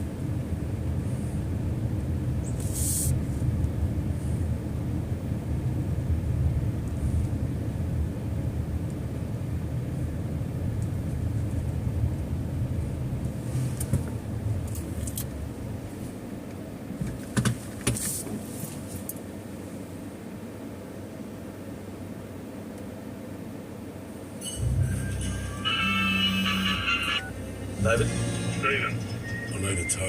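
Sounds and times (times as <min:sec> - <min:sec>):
car engine rumble: 0:00.0 - 0:30.0
road noise: 0:00.0 - 0:30.0.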